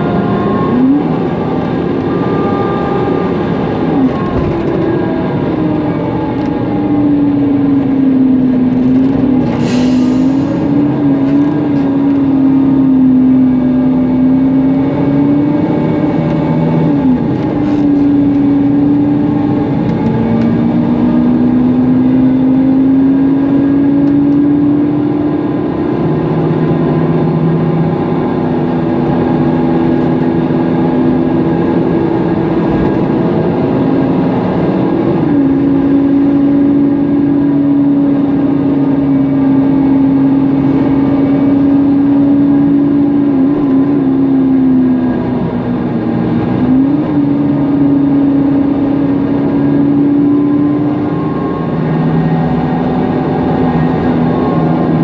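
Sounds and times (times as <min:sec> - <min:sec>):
bus engine and fan whine: 0:00.0 - 0:55.0.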